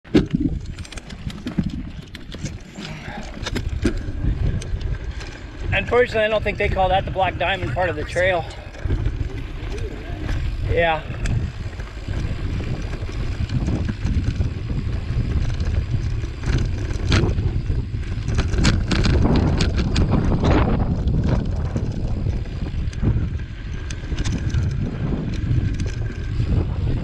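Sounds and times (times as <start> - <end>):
bike clicks and rattles: 0.1 - 27.0
tyres rolling on dirt: 0.1 - 27.0
wind buffeting microphone: 0.1 - 27.0.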